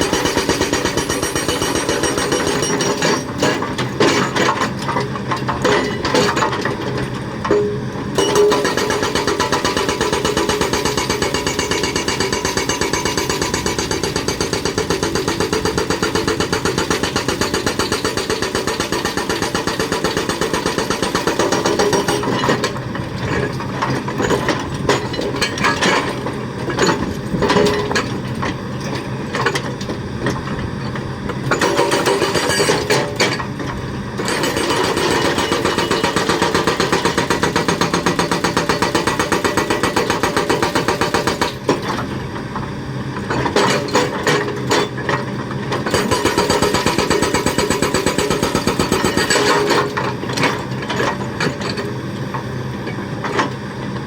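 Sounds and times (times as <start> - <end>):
hydraulic breaker hammering: 0.0 - 6.8, 7.5 - 28.2, 31.4 - 33.5, 34.2 - 42.1, 43.2 - 51.0.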